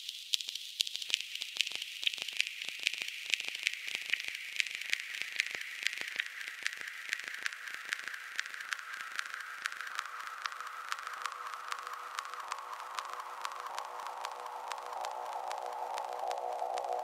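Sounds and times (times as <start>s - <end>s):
high hiss with crackling clicks: 0.0s - 17.0s.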